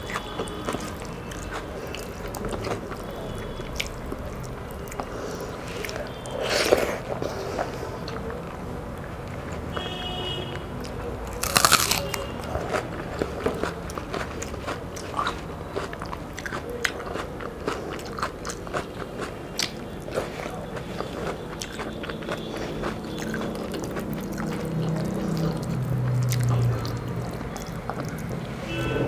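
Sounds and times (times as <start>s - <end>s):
chewing with wet mouth clicks: 0.0s - 9.9s, 10.8s - 28.5s.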